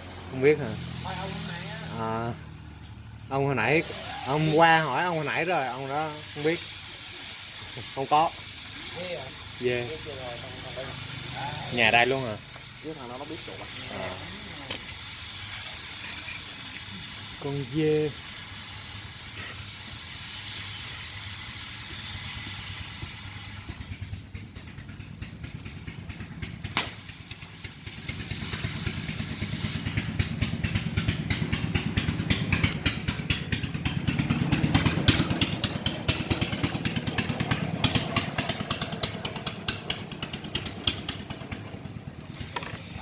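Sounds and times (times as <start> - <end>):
small engine running: 0.0 - 17.8, 21.4 - 43.0.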